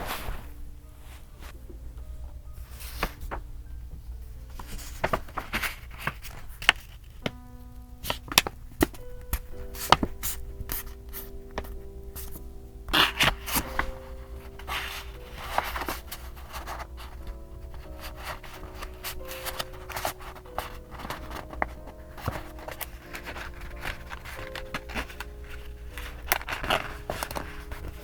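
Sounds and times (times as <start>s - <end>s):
paper rustling: 0.0s - 1.6s, 2.6s - 7.4s, 8.0s - 28.0s
soft background music: 0.0s - 28.0s.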